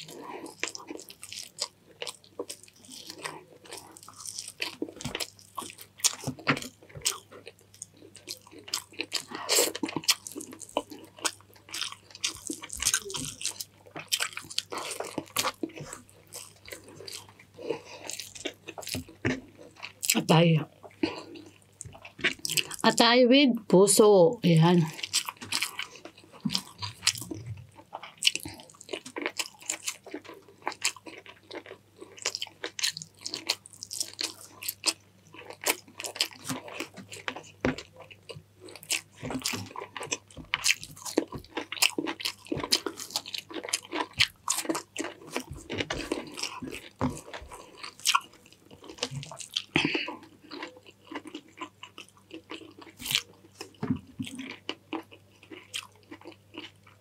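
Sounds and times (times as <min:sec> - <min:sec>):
person chewing food: 0:00.0 - 0:22.8, 0:24.6 - 0:57.0.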